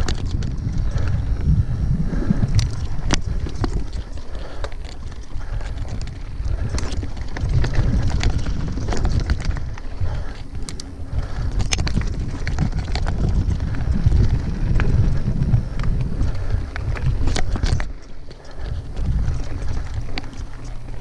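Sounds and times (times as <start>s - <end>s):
bike clicking and rattling: 0.0s - 21.0s
wind buffeting microphone: 0.0s - 21.0s
tyres on dirt and leaves: 2.2s - 21.0s.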